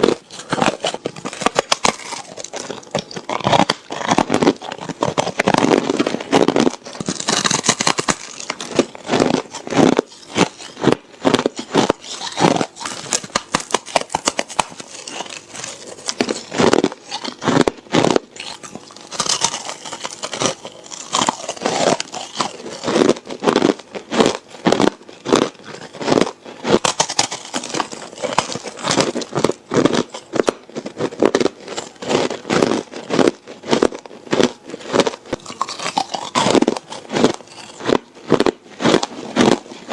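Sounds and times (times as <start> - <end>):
ice crunched between teeth: 0.0 - 39.9.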